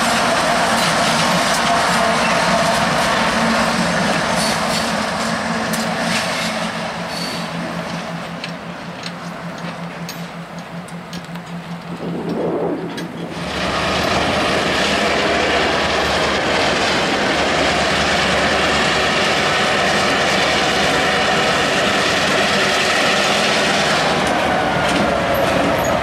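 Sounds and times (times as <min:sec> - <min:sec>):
locomotive engines droning: 0:00.0 - 0:26.0
locomotive idling: 0:00.0 - 0:26.0.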